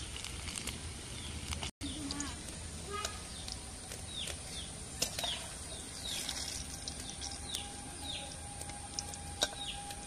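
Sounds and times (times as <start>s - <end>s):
fritters deep-frying in oil: 0.0s - 10.0s
bird chirping: 1.1s - 10.0s.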